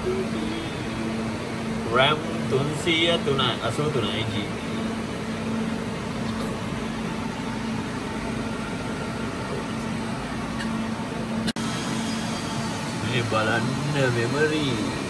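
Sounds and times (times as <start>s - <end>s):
server cooling fans whirring: 0.0s - 15.0s.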